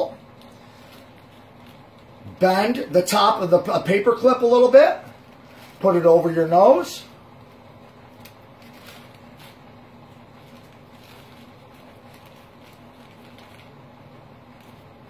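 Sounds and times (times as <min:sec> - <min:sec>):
paper mask rustling and ticking: 0:00.0 - 0:15.0
steady low hum: 0:00.0 - 0:15.0.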